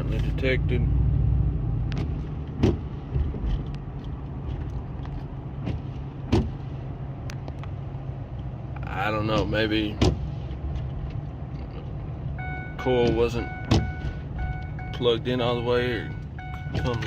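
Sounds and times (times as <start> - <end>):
engine running inside cab: 0.0 - 17.0
road noise: 0.0 - 17.0.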